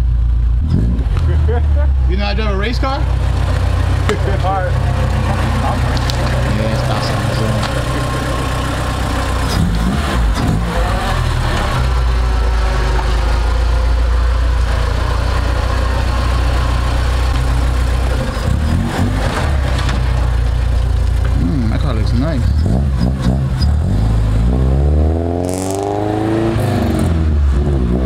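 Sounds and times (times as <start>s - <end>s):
car engine and exhaust droning: 0.0s - 28.0s.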